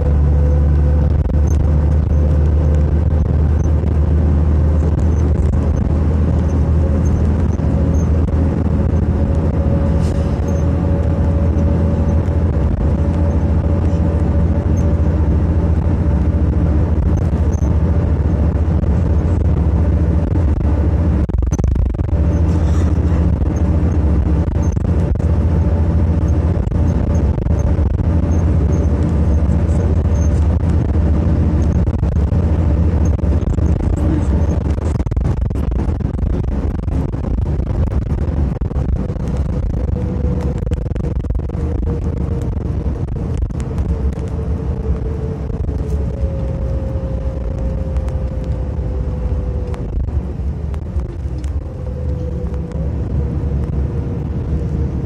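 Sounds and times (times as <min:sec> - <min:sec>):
bus engine hum: 0:00.0 - 0:55.0
faint steady whine: 0:00.0 - 0:55.0
tyre and road noise: 0:00.0 - 0:55.0.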